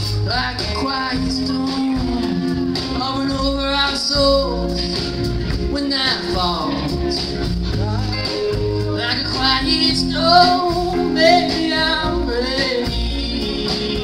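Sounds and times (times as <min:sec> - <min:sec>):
live band playing: 0:00.0 - 0:14.0
person singing: 0:00.0 - 0:14.0.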